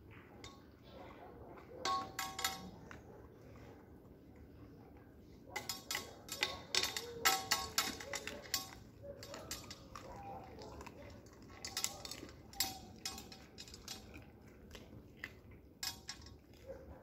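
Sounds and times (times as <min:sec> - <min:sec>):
metal food bowl clinking: 0:00.3 - 0:01.0, 0:01.6 - 0:03.1, 0:05.5 - 0:17.0.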